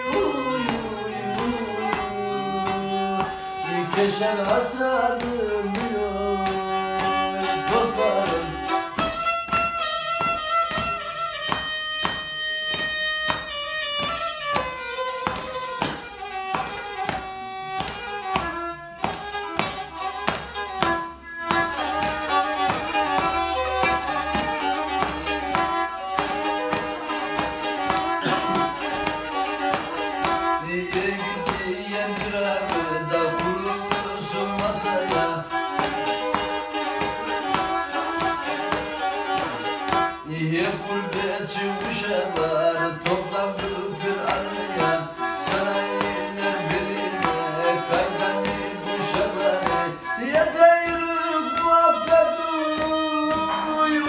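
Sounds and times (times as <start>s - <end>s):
fiddle playing quick folk tune: 0.0s - 54.0s.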